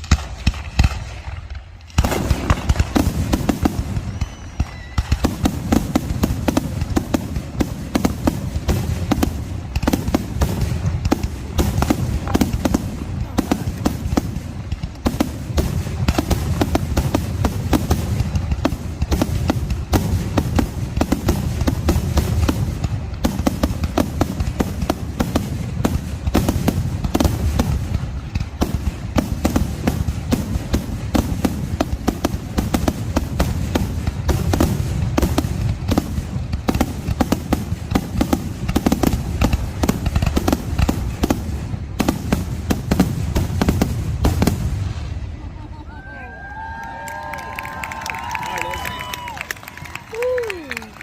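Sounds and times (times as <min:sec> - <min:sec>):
fireworks bangs and crackles: 0:00.0 - 0:51.0
low rumble of fireworks bursts: 0:00.0 - 0:51.0.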